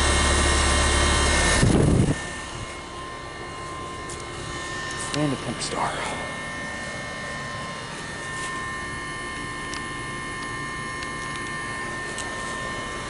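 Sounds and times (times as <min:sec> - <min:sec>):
compressor hum: 0:00.0 - 0:13.0
fan rush: 0:00.0 - 0:13.0
whining tones: 0:00.0 - 0:13.0.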